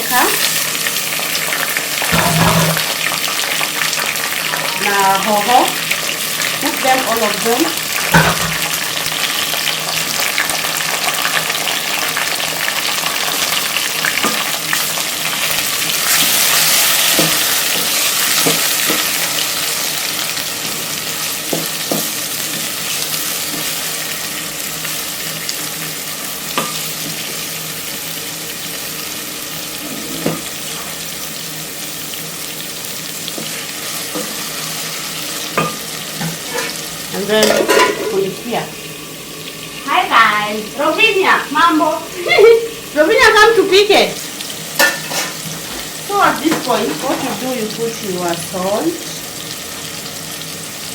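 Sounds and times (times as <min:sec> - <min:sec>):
chicken sizzling in oil: 0:00.0 - 0:50.9.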